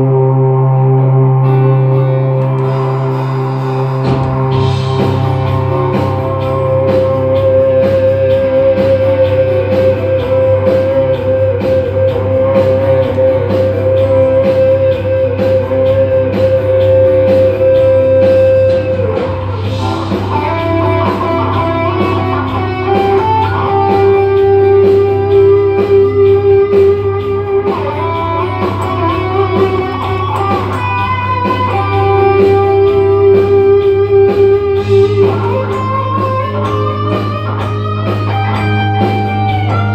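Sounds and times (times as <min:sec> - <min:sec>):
picked guitar: 0:00.0 - 0:39.9.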